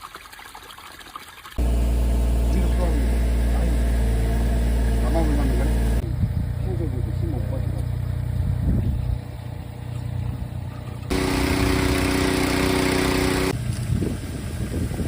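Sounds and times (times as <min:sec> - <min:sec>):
engine idling: 0:01.6 - 0:13.8.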